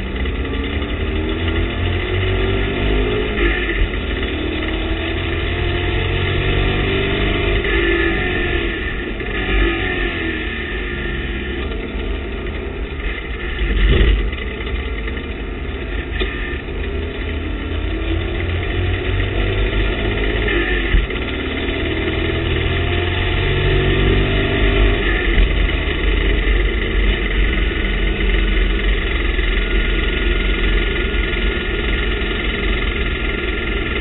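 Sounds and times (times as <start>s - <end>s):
race car engine running: 0.0s - 34.0s.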